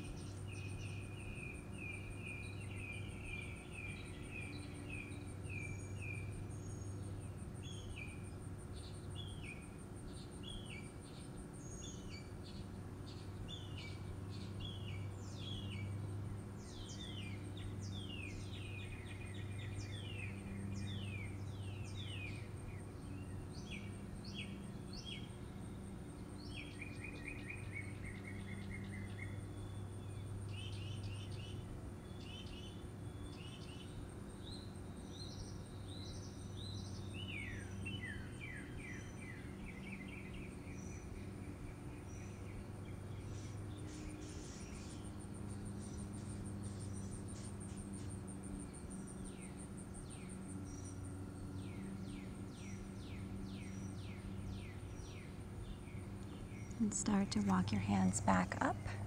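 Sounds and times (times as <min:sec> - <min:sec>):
birds chirping and singing: 0:00.0 - 0:25.8, 0:26.4 - 0:59.0
steady low hum: 0:00.0 - 0:59.0.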